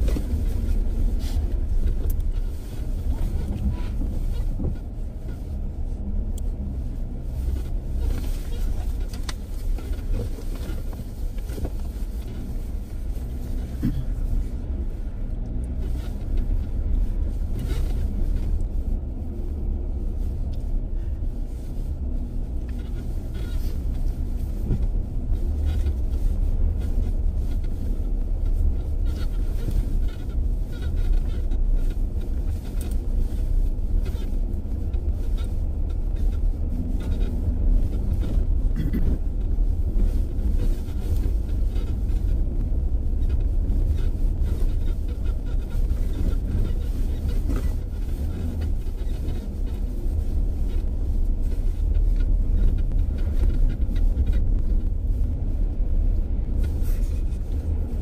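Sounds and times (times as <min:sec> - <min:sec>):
off-road vehicle engine rumble: 0:00.0 - 0:58.0.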